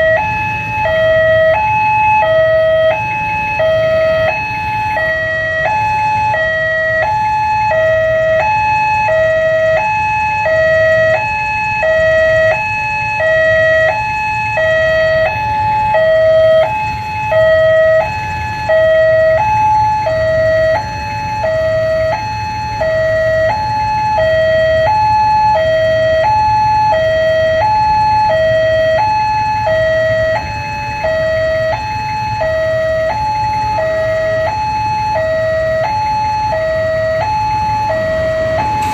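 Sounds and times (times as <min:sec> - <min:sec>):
two-tone level crossing alarm: 0:00.0 - 0:38.9.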